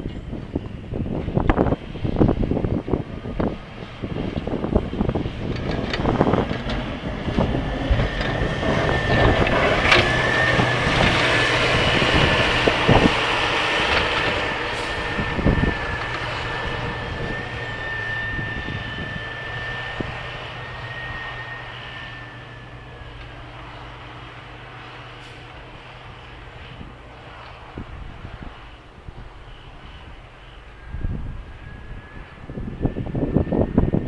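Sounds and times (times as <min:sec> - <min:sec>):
snow plow engine whining: 0:00.0 - 0:34.0.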